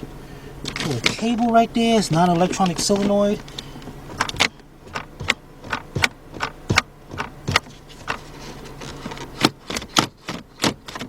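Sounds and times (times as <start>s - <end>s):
gear shifter clicking: 0.6s - 11.0s.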